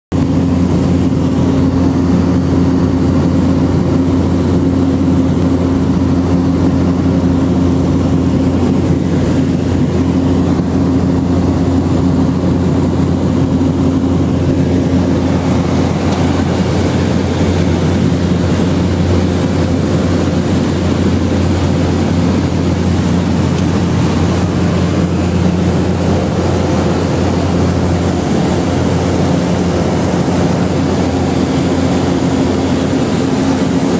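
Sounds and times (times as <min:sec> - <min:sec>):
turboprop engine drone in cabin: 0:00.1 - 0:33.9.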